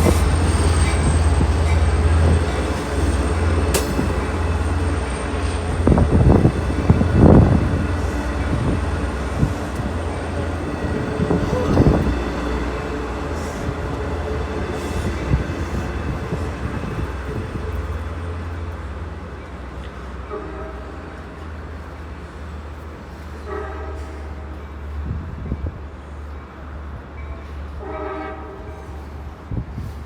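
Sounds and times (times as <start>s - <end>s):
train clanks and rattles: 0.0s - 30.0s
train rumbling on rails: 0.0s - 30.0s.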